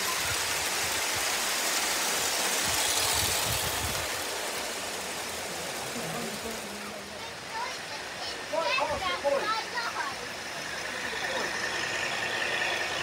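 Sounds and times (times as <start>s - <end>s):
model steam locomotive hissing: 0.0s - 13.0s.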